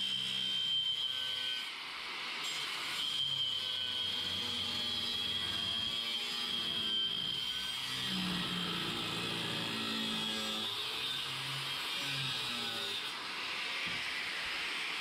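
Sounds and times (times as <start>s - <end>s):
angle grinder cutting metal: 0.0s - 15.0s.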